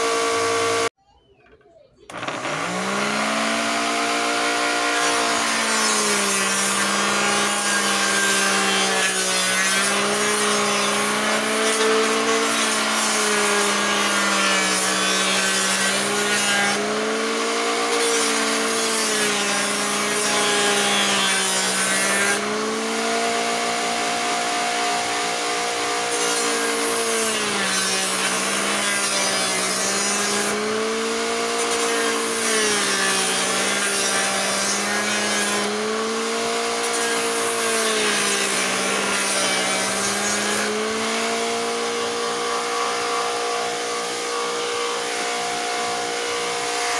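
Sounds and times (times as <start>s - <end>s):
sander motor whine: 0.0s - 46.9s.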